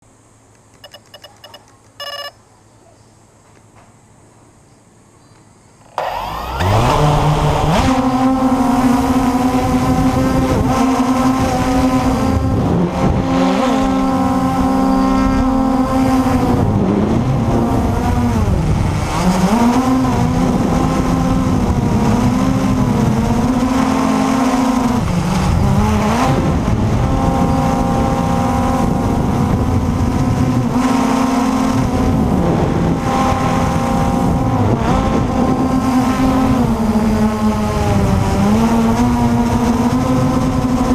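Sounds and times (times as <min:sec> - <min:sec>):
quadcopter motors whining: 0:00.6 - 0:02.3, 0:05.8 - 0:40.9.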